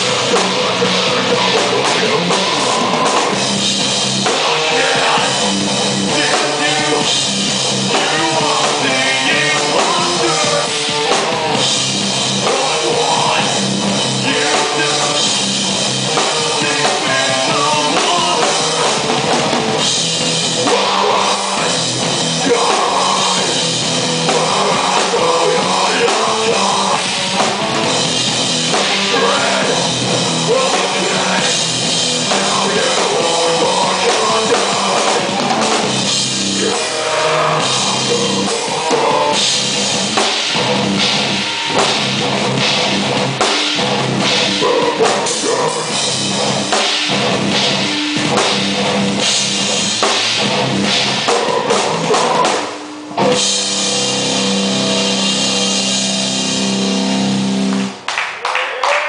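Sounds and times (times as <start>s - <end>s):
heavy rock band playing: 0.0s - 58.1s
pounding drum kit: 0.0s - 58.1s.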